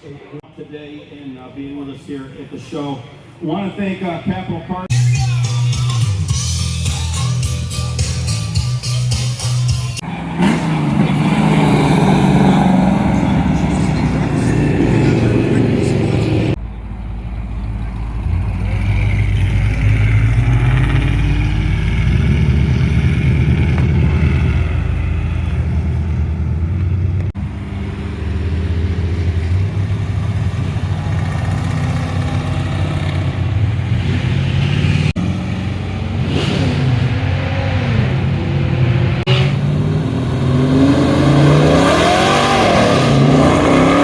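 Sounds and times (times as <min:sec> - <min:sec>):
car engines revving: 0:07.8 - 0:44.0.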